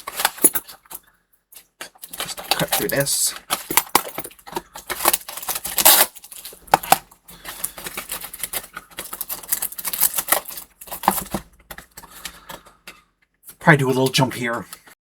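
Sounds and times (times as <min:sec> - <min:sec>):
scissors snipping plastic: 0:00.0 - 0:00.9, 0:01.6 - 0:13.0
plastic crinkling: 0:00.0 - 0:01.0, 0:01.6 - 0:13.0.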